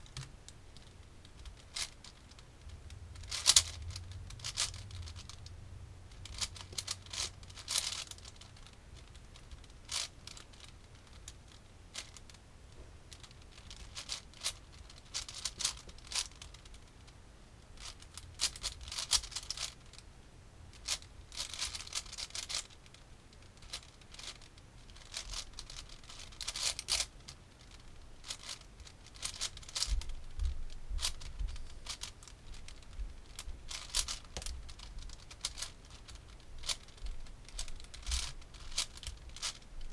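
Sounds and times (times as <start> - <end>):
puzzle cube clicking and scraping: 0.0 - 5.5, 6.1 - 12.4, 13.1 - 17.0, 17.8 - 20.0, 20.7 - 39.9.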